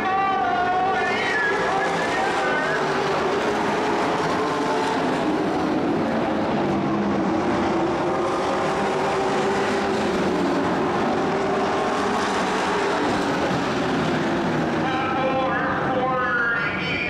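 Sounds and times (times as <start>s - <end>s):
racing truck engines: 0.0s - 17.0s.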